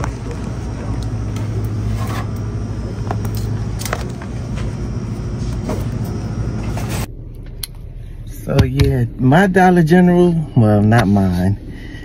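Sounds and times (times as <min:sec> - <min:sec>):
low hum and rumble of room tone: 0:00.0 - 0:12.0.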